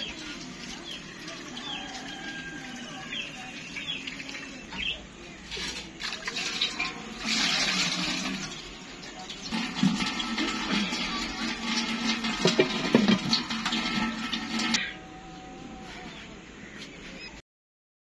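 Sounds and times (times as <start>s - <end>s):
clay pot being rinsed: 0.0s - 15.0s.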